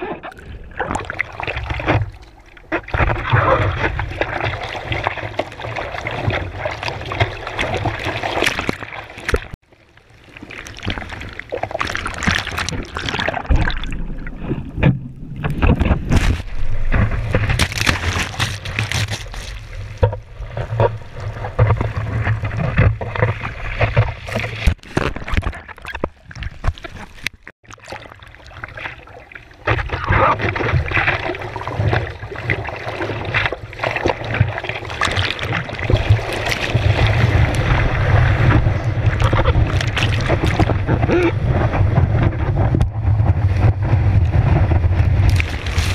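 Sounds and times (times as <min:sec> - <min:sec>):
water sloshing and splashing: 0:00.0 - 0:45.9
paddling strokes in water: 0:00.8 - 0:45.9.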